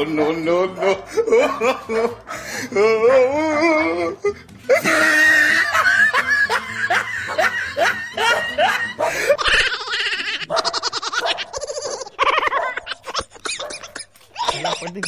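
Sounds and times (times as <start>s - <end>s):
loud human laughter: 1.0s - 2.3s, 3.9s - 15.0s.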